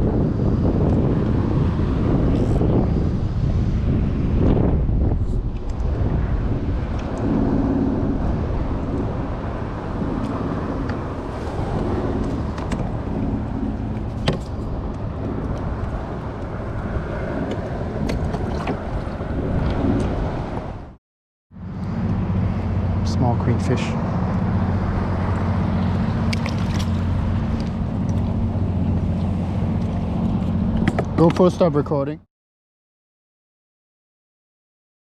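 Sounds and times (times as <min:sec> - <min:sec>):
wind buffeting microphone: 0:00.0 - 0:21.0, 0:21.6 - 0:31.8.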